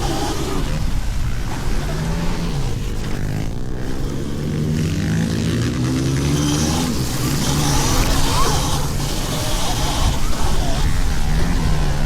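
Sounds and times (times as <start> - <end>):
small motorcycle engines revving: 0.0 - 12.0.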